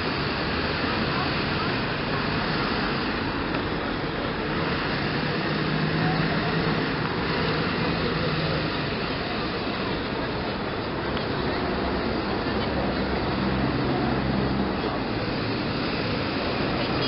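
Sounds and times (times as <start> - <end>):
crowd chatter: 0.0 - 17.0
traffic: 0.0 - 17.0.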